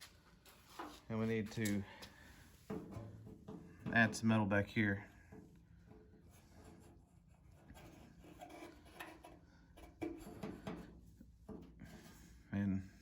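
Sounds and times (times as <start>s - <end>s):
faint rubbing and scraping: 2.4s - 13.0s.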